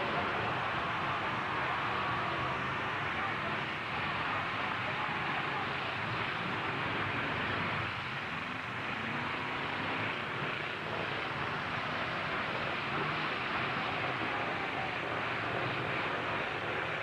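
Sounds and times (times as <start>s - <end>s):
truck engines running: 0.0s - 17.0s.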